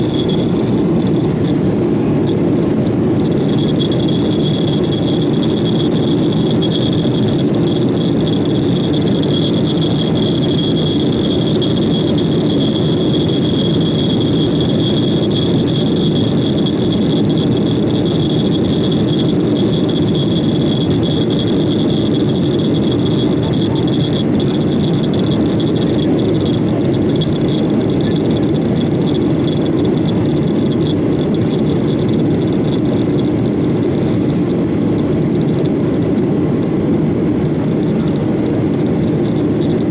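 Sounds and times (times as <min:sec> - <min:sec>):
jet engines and air rush in cabin: 0:00.0 - 0:39.9
thin high whine: 0:00.0 - 0:39.9.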